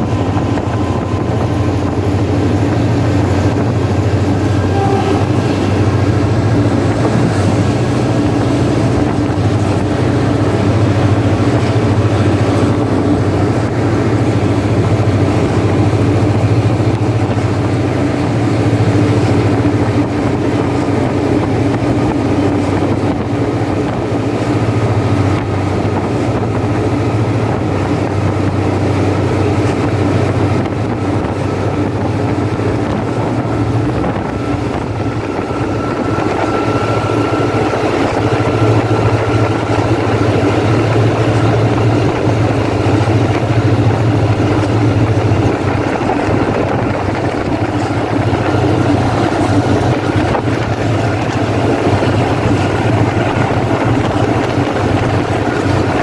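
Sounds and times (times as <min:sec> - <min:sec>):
diesel locomotive engine drone: 0:00.0 - 0:56.0
wind rushing over microphone: 0:00.0 - 0:56.0.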